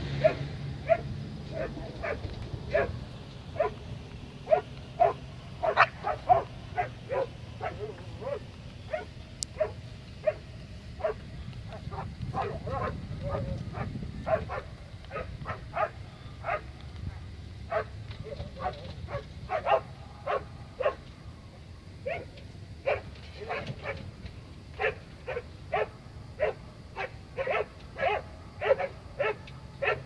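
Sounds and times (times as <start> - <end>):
dog barking and yipping: 0.2 - 3.0, 3.6 - 3.8, 4.4 - 16.7, 17.7 - 21.0, 22.0 - 24.1, 24.8 - 30.0.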